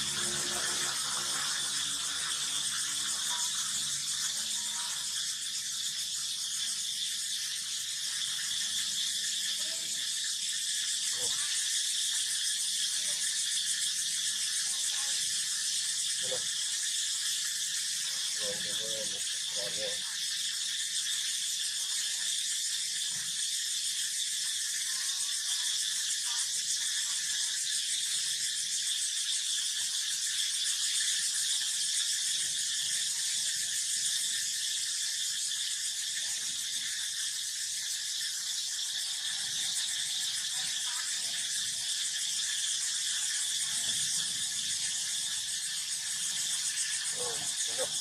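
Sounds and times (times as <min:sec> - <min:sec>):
high-pitched insect drone: 0:00.0 - 0:48.0.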